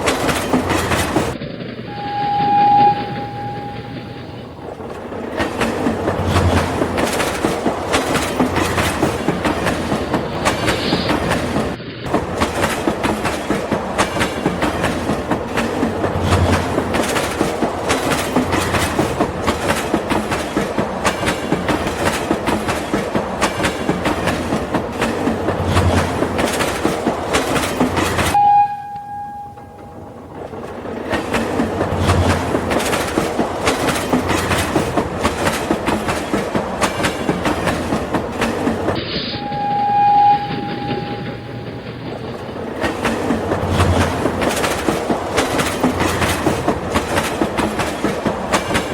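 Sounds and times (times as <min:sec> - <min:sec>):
train clattering along track: 0:00.0 - 0:48.9.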